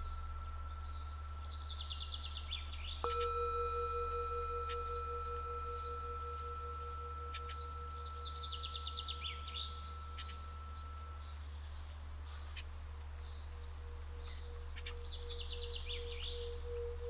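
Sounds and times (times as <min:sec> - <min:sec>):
singing bowl ringing: 0:00.0 - 0:11.9, 0:14.8 - 0:17.0
songbird trilling: 0:00.0 - 0:17.0
steady low hum: 0:00.0 - 0:17.0.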